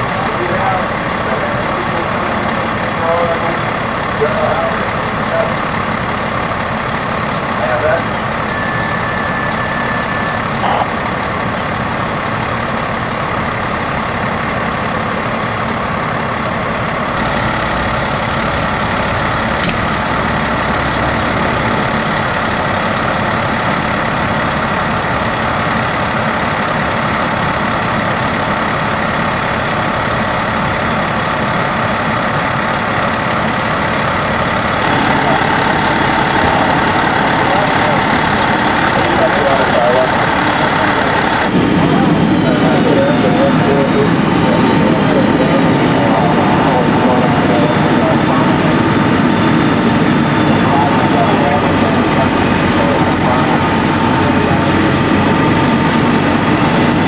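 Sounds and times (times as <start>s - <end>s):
fire engine rumble and hiss: 0.0s - 57.0s
steady higher whine: 0.0s - 57.0s.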